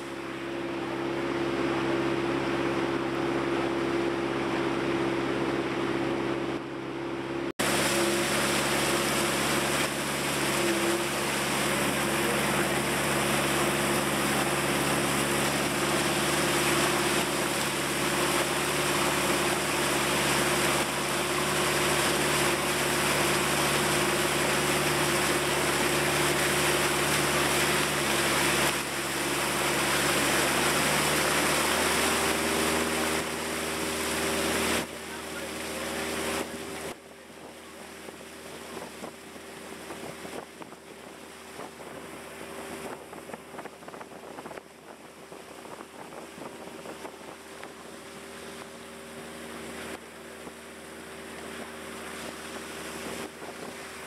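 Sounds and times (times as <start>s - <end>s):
boat engine running: 0.0s - 54.0s
wind and water rushing: 0.0s - 54.0s.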